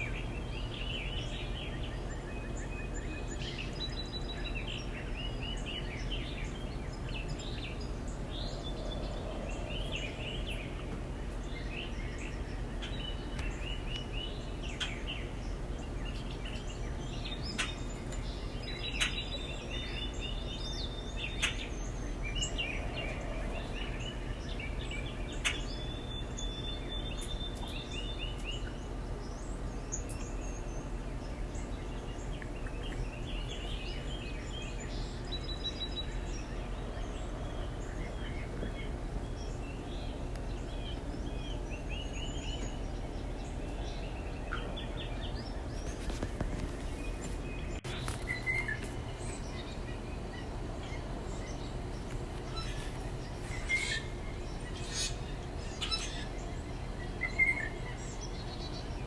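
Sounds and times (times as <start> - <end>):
low background hum: 0.0 - 59.0
songbirds chirping and trilling: 0.0 - 59.0.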